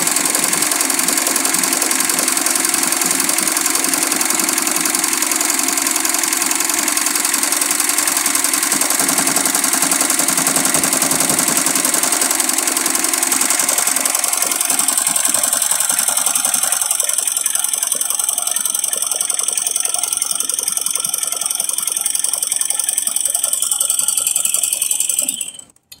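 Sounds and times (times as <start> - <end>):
embroidery machine stitching: 0.0 - 25.9.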